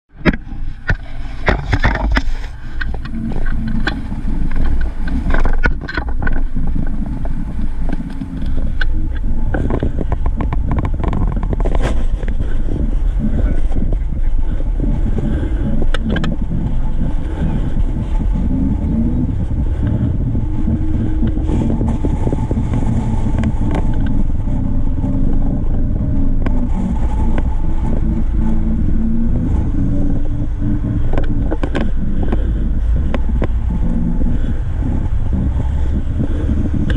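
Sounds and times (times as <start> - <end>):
vehicle engine rumble: 0.0 - 36.9
knocks and rattles: 0.1 - 36.9.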